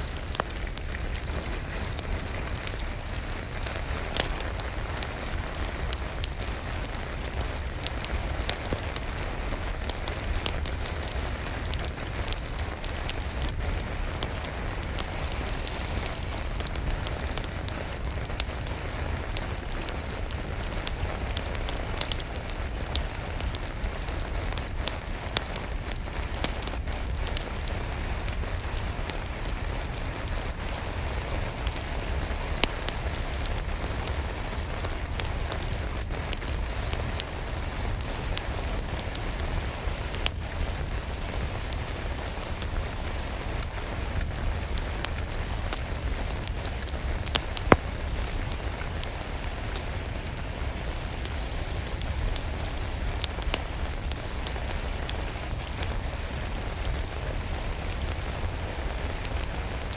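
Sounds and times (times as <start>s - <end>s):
steady rain: 0.0s - 59.9s
wood fire crackling: 0.0s - 59.9s.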